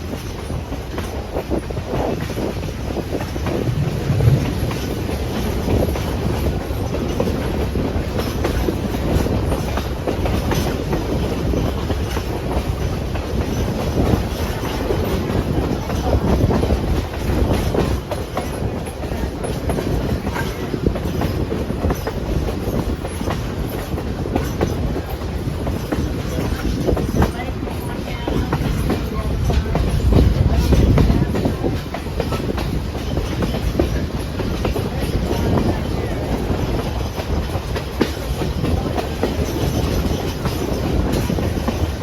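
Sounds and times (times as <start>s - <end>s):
train rumbling: 0.0s - 42.0s
wheels clacking over rail joints: 0.0s - 42.0s.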